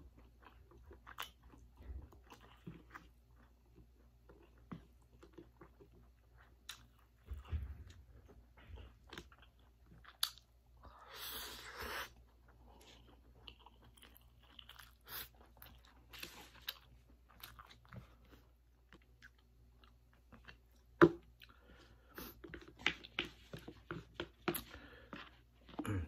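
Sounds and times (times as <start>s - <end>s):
chewing noodles: 0.0s - 26.0s.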